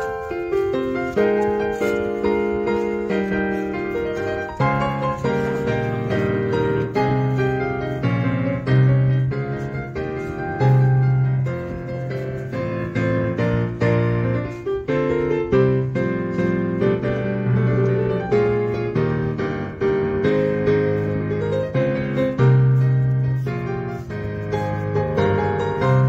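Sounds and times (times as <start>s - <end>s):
piano music with bass line: 0.0s - 26.0s.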